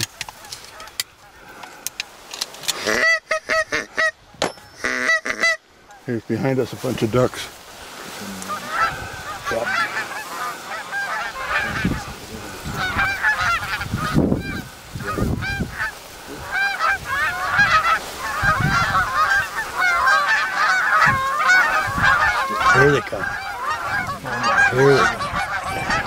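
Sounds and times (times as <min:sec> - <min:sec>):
geese honking: 0:00.0 - 0:02.0, 0:02.6 - 0:06.1, 0:07.1 - 0:26.0.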